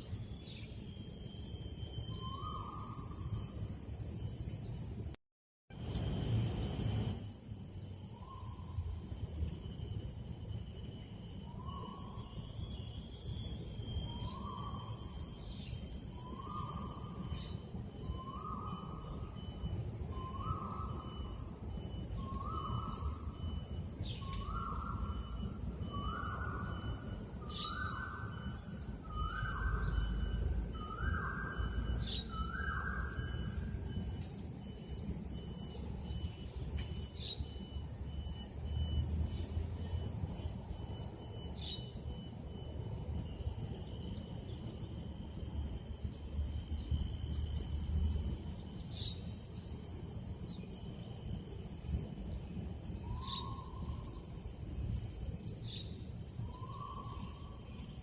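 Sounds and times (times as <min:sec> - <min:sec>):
faint pulsing high tone: 0:00.0 - 0:58.0.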